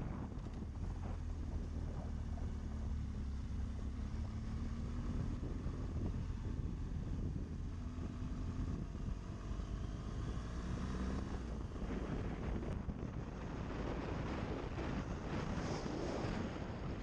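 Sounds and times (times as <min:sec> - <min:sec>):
motorcycle engine cruising: 0:00.0 - 0:17.0
wind noise on microphone: 0:00.0 - 0:17.0.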